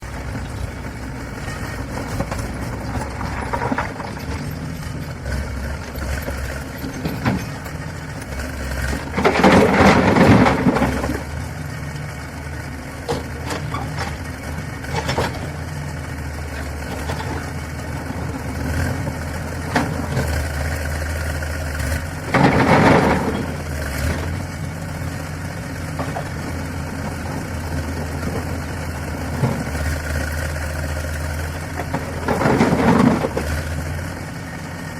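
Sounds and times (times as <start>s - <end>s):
diesel construction machinery drone: 0.0s - 34.9s.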